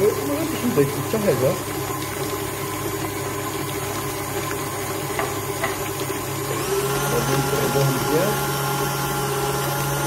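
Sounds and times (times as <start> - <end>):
stand mixer beating dough: 0.0 - 10.0.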